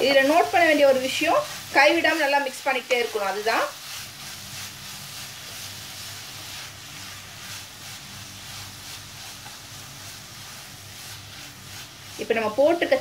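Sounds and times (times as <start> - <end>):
faint sizzle: 0.0 - 13.0
spatula scraping pan: 0.0 - 13.0.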